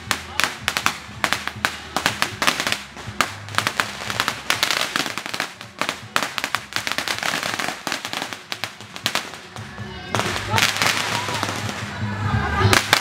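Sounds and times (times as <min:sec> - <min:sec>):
firecrackers bangs and crackles: 0:00.0 - 0:13.0.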